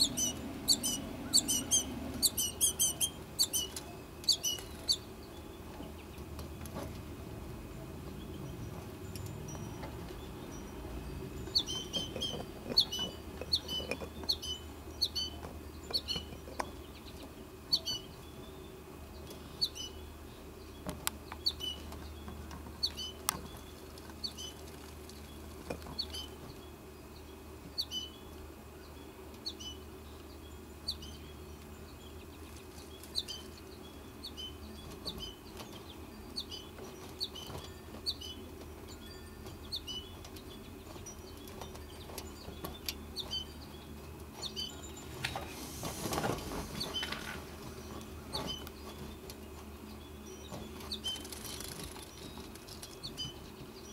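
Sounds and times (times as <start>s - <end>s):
fledgling bird chirping: 0.0s - 6.6s, 7.9s - 53.9s
low steady hum: 0.0s - 53.9s.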